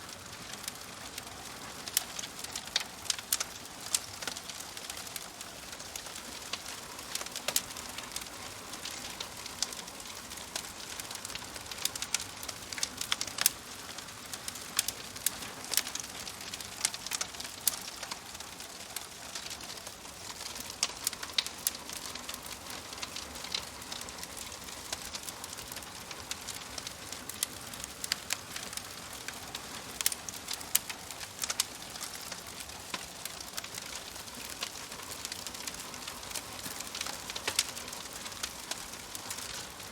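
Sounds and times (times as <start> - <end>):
fire hissing: 0.2 - 39.9
fire pops and snaps: 0.4 - 39.9.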